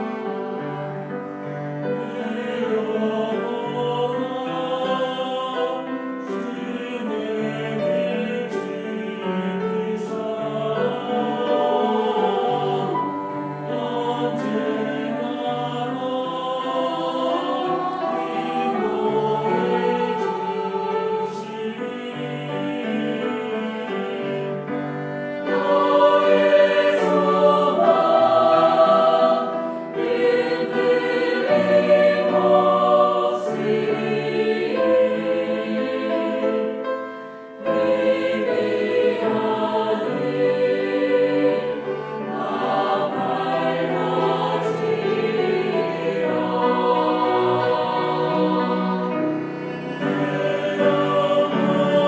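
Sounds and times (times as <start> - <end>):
church choir singing a hymn: 0.0 - 52.0.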